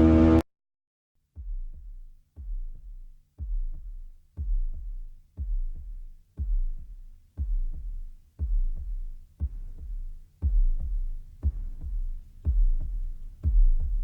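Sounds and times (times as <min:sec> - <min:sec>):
electronic bass beat music: 0:01.4 - 0:14.0.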